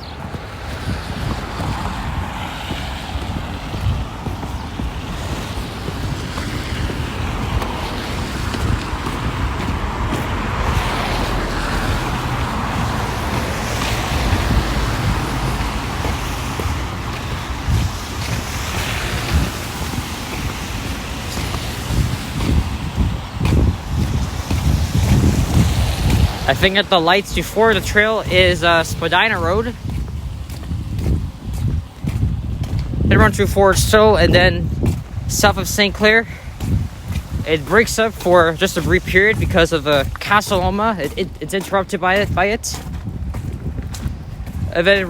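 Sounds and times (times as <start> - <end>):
vehicles passing tyre noise: 0.0 - 45.0
wind rumble on microphone: 0.0 - 45.0.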